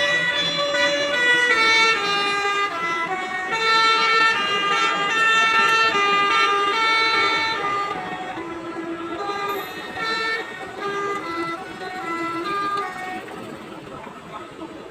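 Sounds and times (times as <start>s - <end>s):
bus multi-tone air horn tune: 0.0s - 14.0s.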